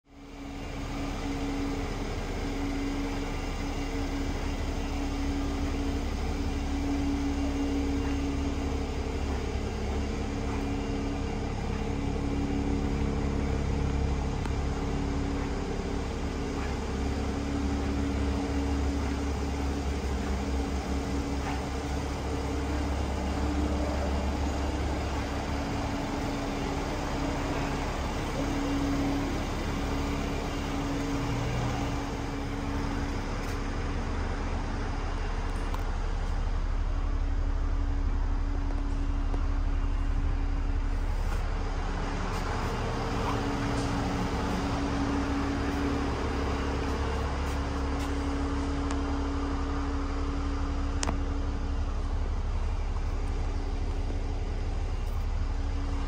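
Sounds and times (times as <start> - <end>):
low mechanical hum: 0.1 - 56.0.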